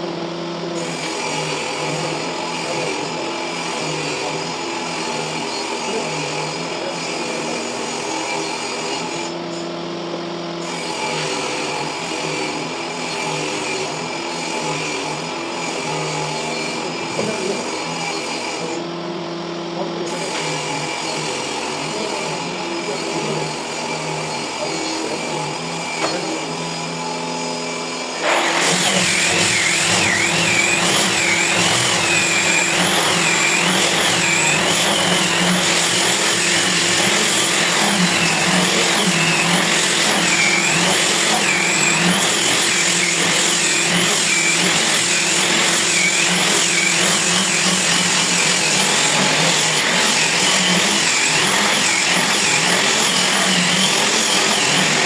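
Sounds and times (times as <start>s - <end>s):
grinder grinding with motor whine: 0.0s - 55.0s.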